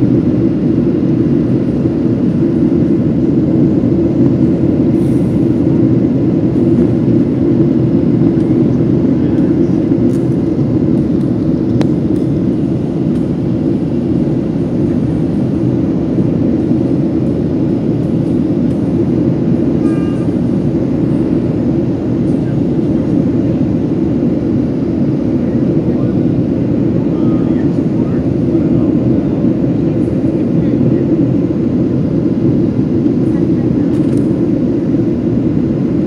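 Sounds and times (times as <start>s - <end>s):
airplane cabin roar: 0.0s - 36.0s.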